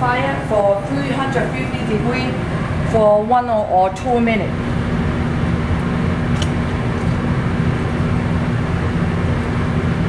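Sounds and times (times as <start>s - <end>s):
constant low hum: 0.0s - 10.0s
kitchen ventilation roar: 0.0s - 10.0s.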